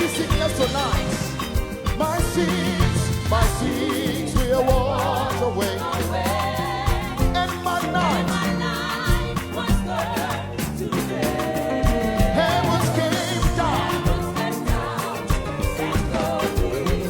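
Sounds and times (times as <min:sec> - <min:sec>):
gospel band playing a hymn: 0:00.0 - 0:17.0.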